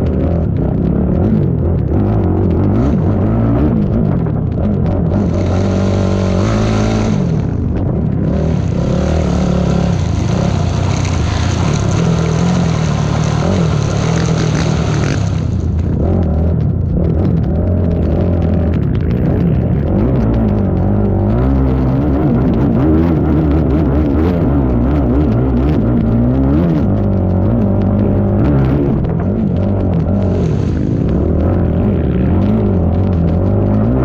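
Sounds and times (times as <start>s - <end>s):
atv engine revving: 0.0s - 34.0s.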